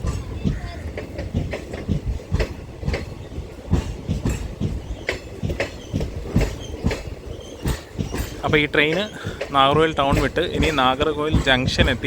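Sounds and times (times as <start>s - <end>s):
train rumble: 0.0s - 12.0s
train wheels clacking on rail joints: 0.0s - 12.0s.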